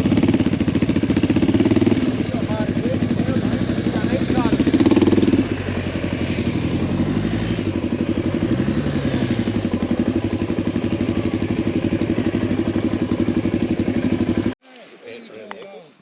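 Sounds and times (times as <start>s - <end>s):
motorcycle engine running at low revs: 0.0s - 14.6s
second engine pitch rising and falling: 0.0s - 14.6s.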